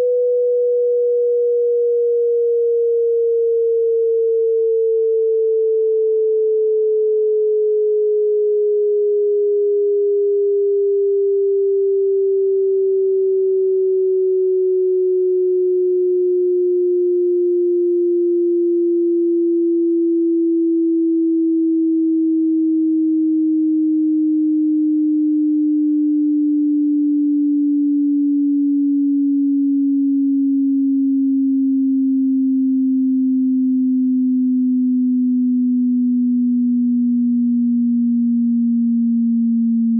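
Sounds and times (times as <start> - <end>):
sine wave tone sweeping downward: 0.0 - 39.9.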